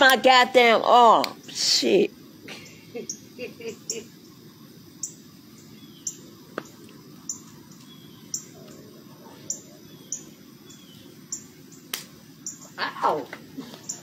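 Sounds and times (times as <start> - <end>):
bird chirping: 0.0 - 12.9.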